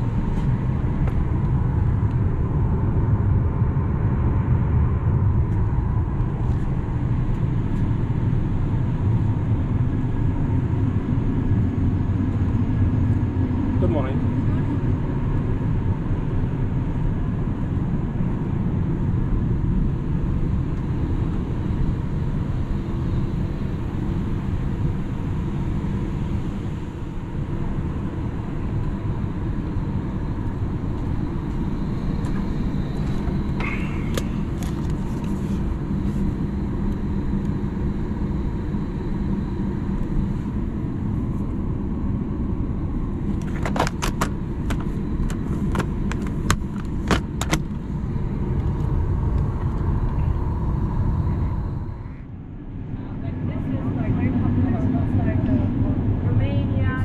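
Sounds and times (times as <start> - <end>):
air conditioning rumble: 0.0 - 57.0.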